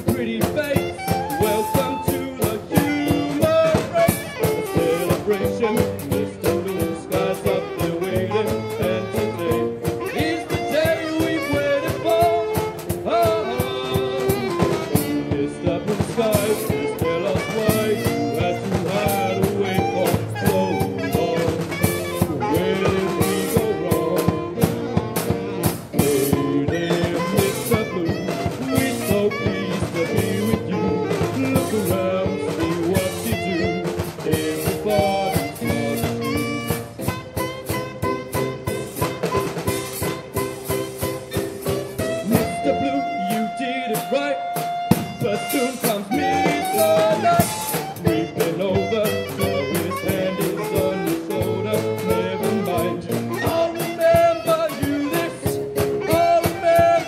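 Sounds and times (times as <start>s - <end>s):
drum kit beat: 0.0s - 57.0s
keyboard playing: 0.0s - 57.0s
saxophone: 0.0s - 57.0s.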